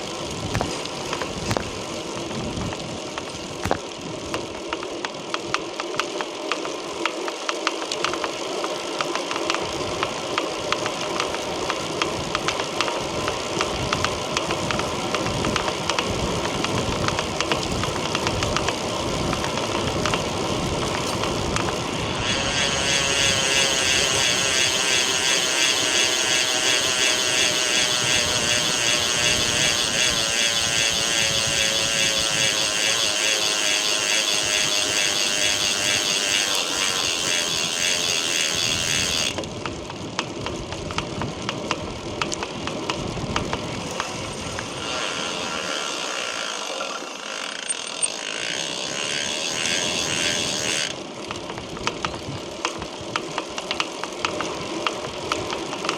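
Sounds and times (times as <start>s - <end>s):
bicycle freehub buzzing: 0.0s - 55.9s.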